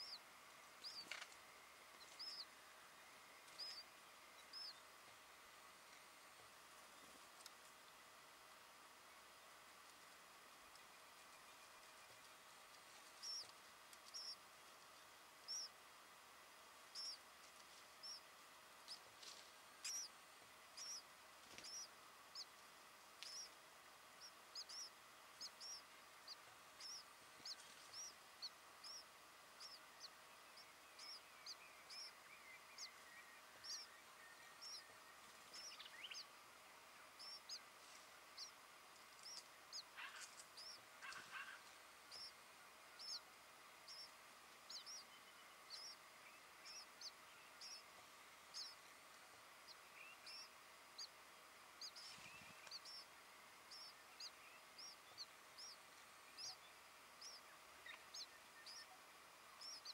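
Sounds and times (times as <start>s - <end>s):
faint birdsong chirps: 0.0s - 59.9s.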